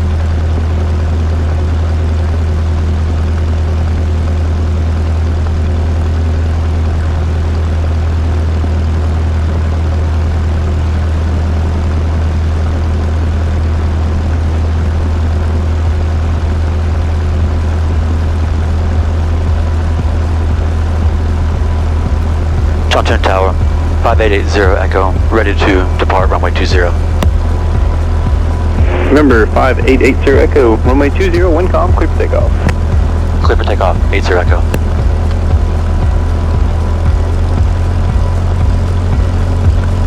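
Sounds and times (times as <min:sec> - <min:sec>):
light aircraft engine and propeller: 0:00.0 - 0:40.0.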